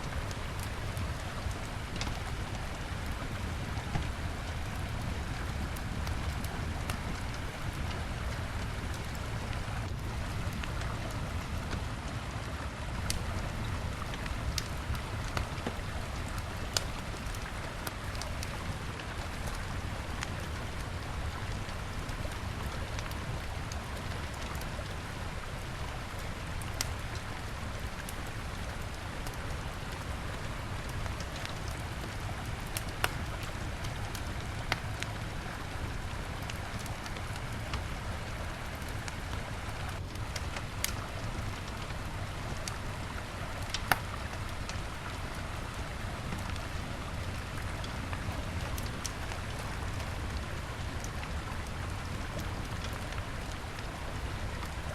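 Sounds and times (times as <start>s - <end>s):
bonfire crackling and popping: 0.0s - 54.9s.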